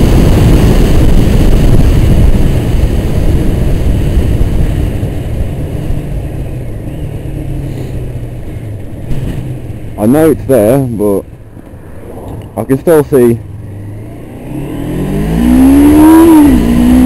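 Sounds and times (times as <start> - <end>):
motorcycle engine running: 0.0 - 10.4, 13.4 - 17.0
wind buffeting microphone: 0.0 - 17.0.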